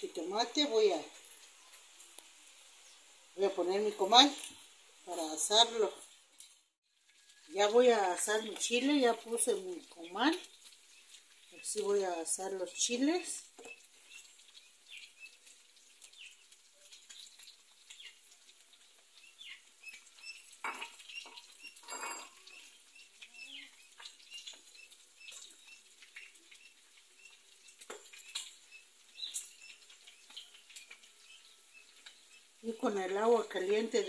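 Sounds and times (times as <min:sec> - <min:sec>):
chiles crackling on a griddle: 0:00.0 - 0:34.0.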